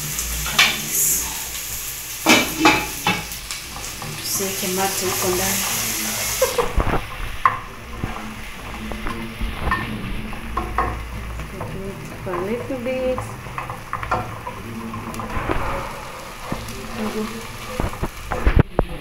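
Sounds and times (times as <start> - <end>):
onions sizzling in a pot: 0.0 - 19.0.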